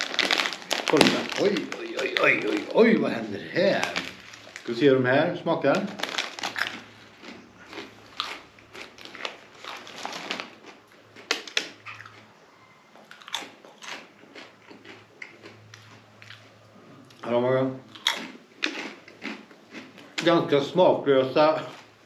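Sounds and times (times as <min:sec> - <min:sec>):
person chewing crunchy snack: 0:00.0 - 0:04.7, 0:05.9 - 0:12.3, 0:13.0 - 0:17.2, 0:17.9 - 0:20.2.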